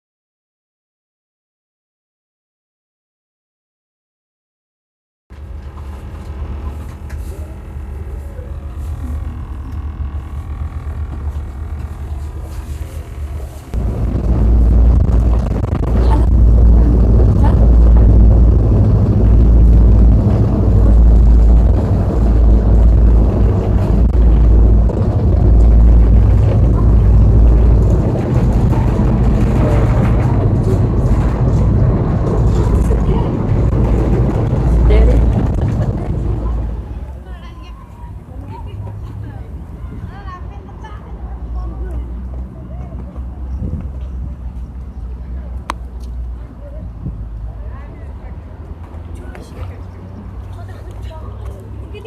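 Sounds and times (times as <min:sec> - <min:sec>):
vehicle rumbling in motion: 0:05.3 - 0:52.0
low engine hum: 0:05.4 - 0:52.0.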